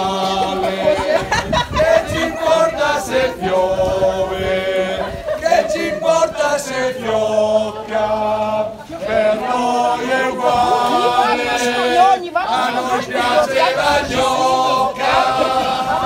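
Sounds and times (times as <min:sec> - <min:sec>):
group singing long held notes: 0:00.0 - 0:16.0.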